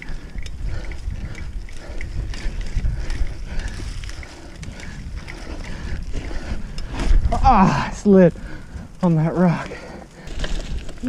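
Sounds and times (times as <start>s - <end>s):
bike rattling and clicking: 0.0s - 11.0s
bike tires grinding over rock: 0.0s - 11.0s
wind rumble on microphone: 0.0s - 11.0s.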